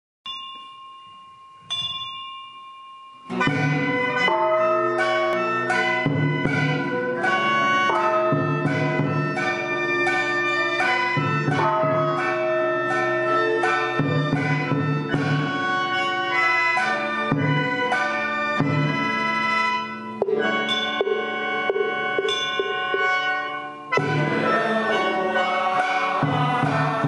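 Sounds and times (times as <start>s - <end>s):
bell ringing: 0.3s - 18.4s, 19.8s - 27.0s
ritual music ensemble: 3.2s - 27.0s.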